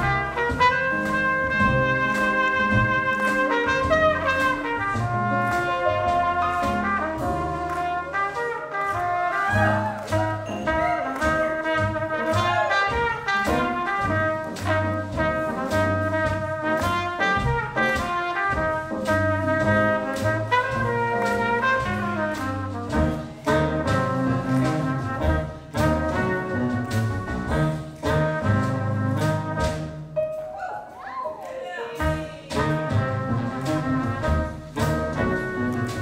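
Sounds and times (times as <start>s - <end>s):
upright bass: 0.0s - 30.1s, 32.0s - 36.0s
trumpet melody: 0.0s - 30.6s, 31.6s - 36.0s
drums keeping a beat: 0.0s - 36.0s
swing jazz band playing: 0.0s - 36.0s.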